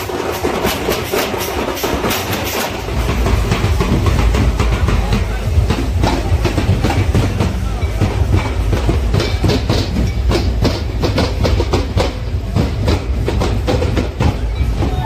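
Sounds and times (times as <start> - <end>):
fast drumming with heavy bass: 0.0 - 15.0
large crowd noise: 0.0 - 15.0.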